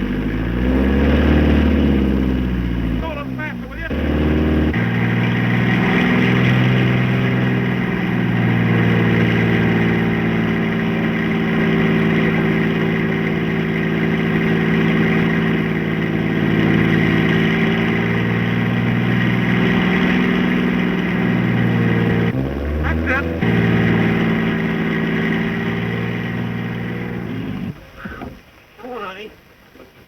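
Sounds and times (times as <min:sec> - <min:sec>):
vehicle engine droning: 0:00.0 - 0:28.6.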